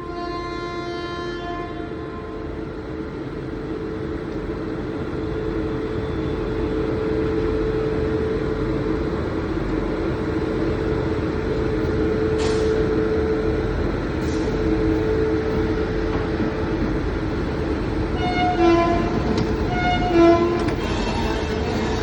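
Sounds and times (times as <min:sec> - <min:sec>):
train rumbling: 0:00.0 - 0:22.0
steady hum: 0:01.4 - 0:22.0.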